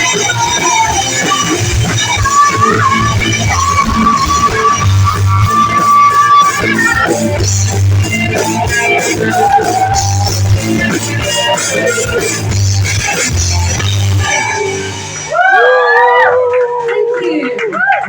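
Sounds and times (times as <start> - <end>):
electric guitar melody: 0.0 - 15.4
pulsing bass line: 0.0 - 15.8
live rock band: 0.0 - 16.9.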